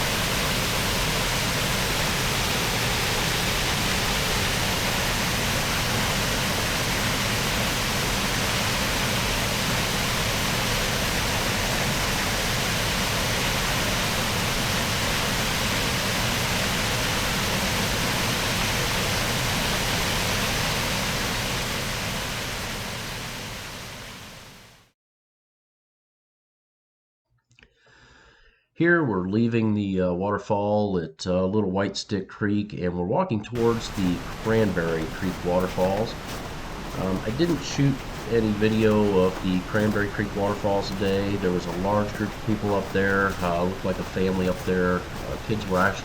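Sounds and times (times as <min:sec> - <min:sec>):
small waterfall rushing: 0:00.0 - 0:24.8, 0:33.6 - 0:46.0.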